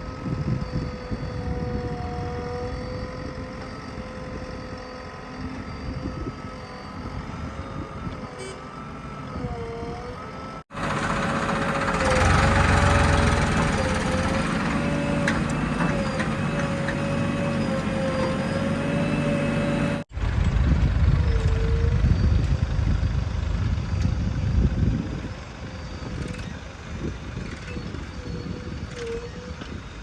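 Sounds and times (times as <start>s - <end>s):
diesel engine running: 1.3s - 29.7s.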